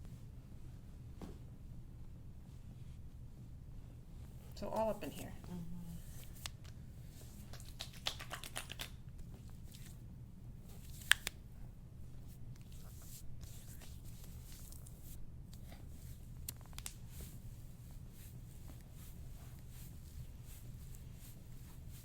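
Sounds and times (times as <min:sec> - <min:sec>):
hands rubbing skin and clothing: 0:04.2 - 0:22.0.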